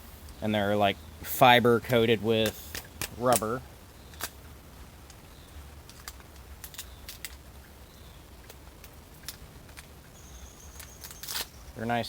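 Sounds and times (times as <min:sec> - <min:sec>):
small clicks and crackles: 0:01.8 - 0:11.9.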